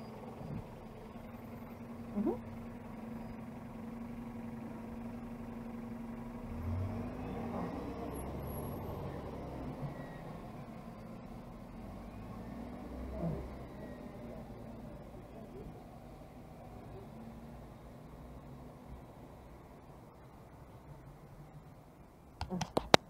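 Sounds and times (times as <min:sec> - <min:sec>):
traffic rumble: 0:00.0 - 0:23.0
vehicle engine hum: 0:00.0 - 0:23.0.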